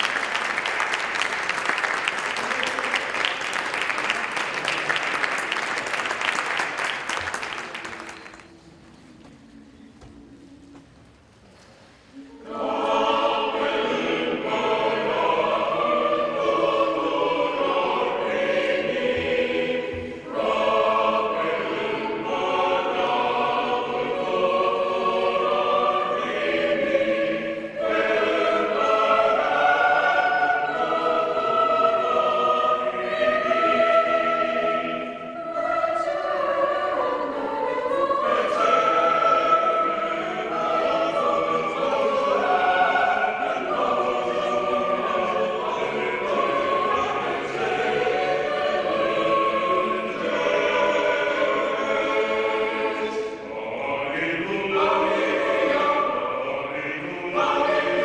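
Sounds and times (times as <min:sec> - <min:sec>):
mixed choir singing a cappella: 0:00.0 - 0:07.9, 0:12.1 - 0:58.0.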